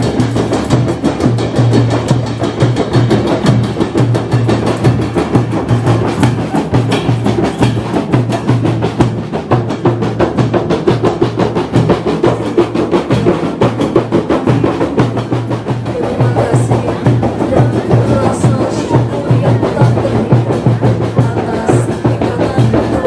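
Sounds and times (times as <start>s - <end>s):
low drum beat: 0.0s - 23.0s
rapid drumming: 0.0s - 23.0s.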